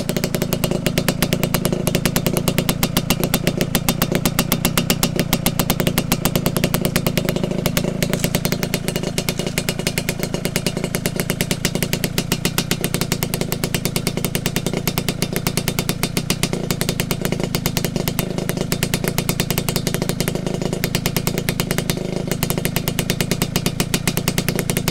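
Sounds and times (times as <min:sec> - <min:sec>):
two-stroke engine idling: 0:00.0 - 0:24.9.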